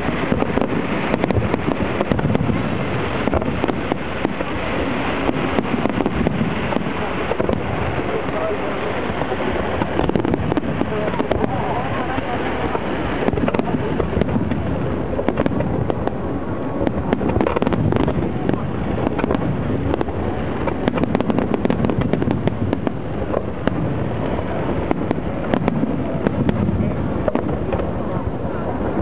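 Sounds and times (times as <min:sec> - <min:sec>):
fireworks bangs and cracks: 0:00.0 - 0:29.0.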